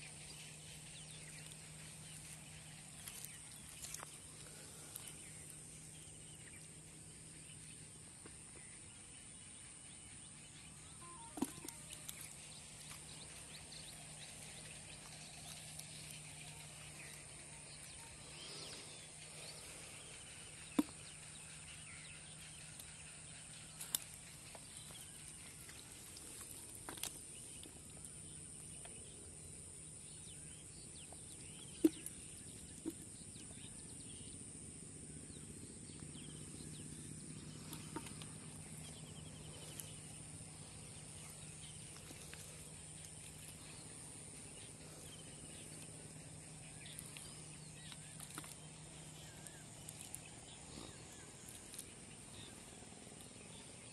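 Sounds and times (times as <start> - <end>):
faint bird chirps: 0.0 - 53.9
insect drone: 0.0 - 53.9
low hum: 0.0 - 53.9.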